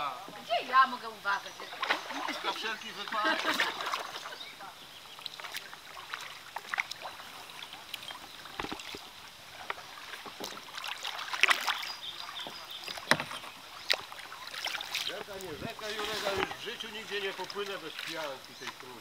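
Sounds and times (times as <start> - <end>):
paddle splashing water: 0.2 - 19.0.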